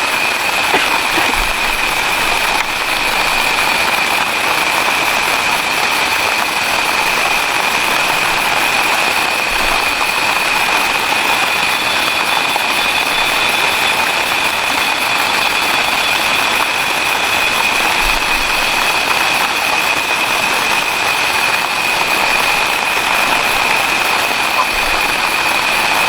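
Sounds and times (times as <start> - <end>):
rain falling on forest: 0.0 - 26.0.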